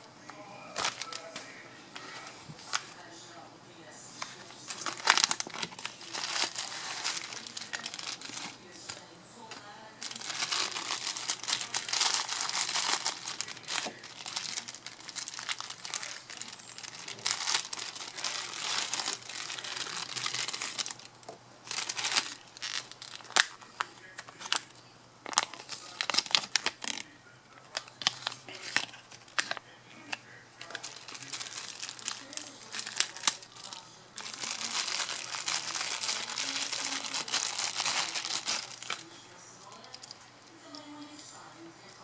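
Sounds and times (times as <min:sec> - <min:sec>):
plastic bag crinkling: 0:00.8 - 0:01.4, 0:04.2 - 0:09.0, 0:10.0 - 0:29.6, 0:30.6 - 0:41.1.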